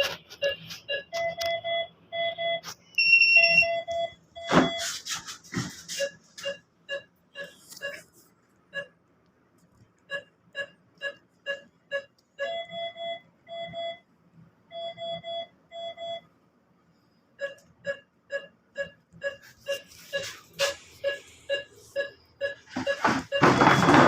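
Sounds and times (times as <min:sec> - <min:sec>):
monitor alarm beeps: 0:00.0 - 0:08.1, 0:10.1 - 0:14.0, 0:14.7 - 0:16.3, 0:17.4 - 0:24.0
patient monitor pulse beeps: 0:00.0 - 0:08.1, 0:08.7 - 0:09.0, 0:10.1 - 0:14.1, 0:14.7 - 0:16.3, 0:17.4 - 0:24.0.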